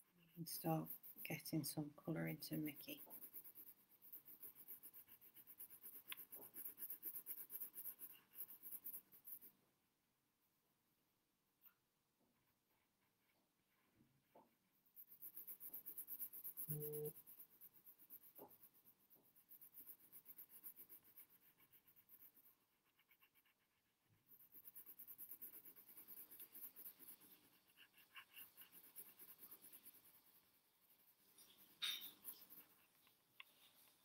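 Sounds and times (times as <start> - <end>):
pencil scratching on paper: 0.0 - 9.6, 11.6 - 34.0.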